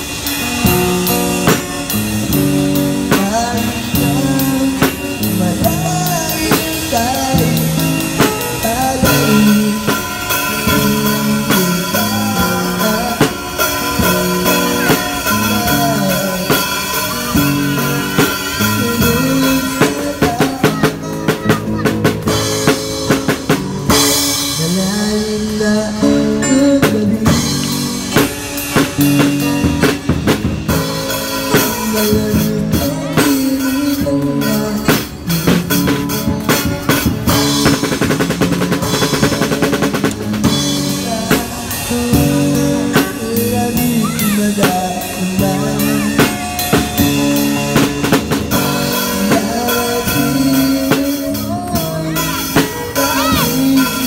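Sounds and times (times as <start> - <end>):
electric guitar melody: 0.0 - 54.0
live drum kit groove: 0.0 - 54.0.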